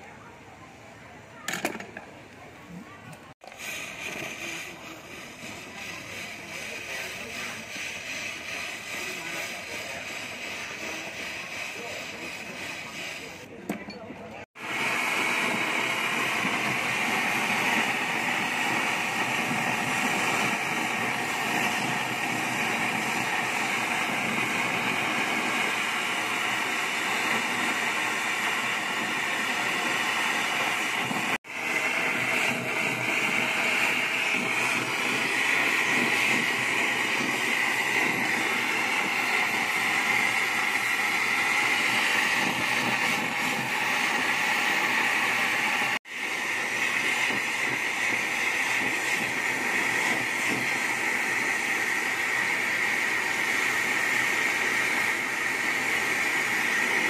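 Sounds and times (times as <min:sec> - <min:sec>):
gas torch flame hissing: 0:03.4 - 0:13.5, 0:14.6 - 0:57.0.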